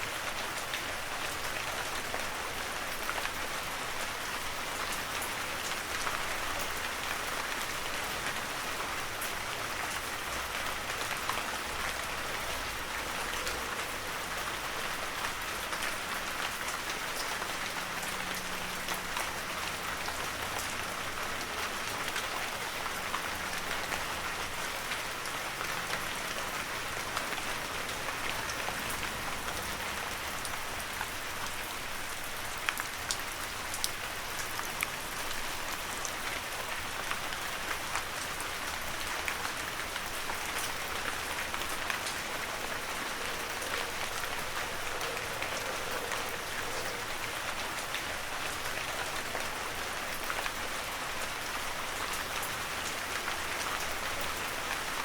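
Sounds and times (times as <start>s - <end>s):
heavy rain on forest: 0.0s - 55.0s.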